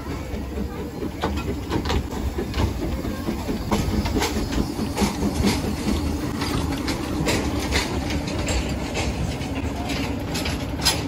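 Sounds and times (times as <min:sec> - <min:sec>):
train rumbling on rails: 0:00.0 - 0:11.0
wheels clicking on track: 0:00.0 - 0:11.0.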